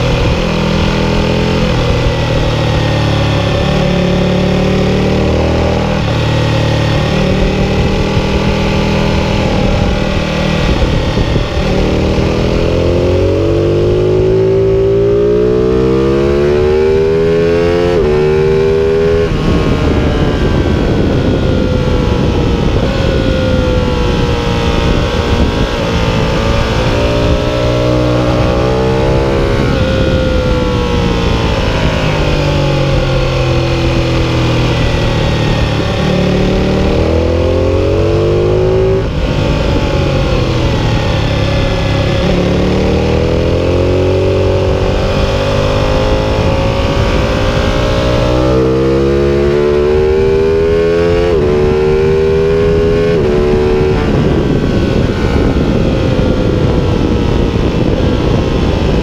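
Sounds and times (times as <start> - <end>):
motorcycle engine at high revs: 0.0 - 59.0
wind rush: 0.0 - 59.0.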